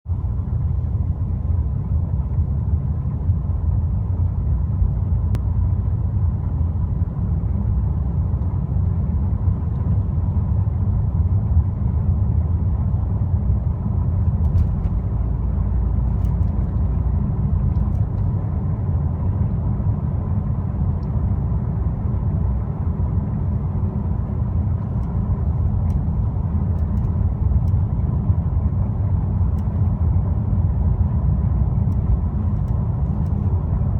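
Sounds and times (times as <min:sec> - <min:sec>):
car engine low rumble: 0:00.0 - 0:33.9.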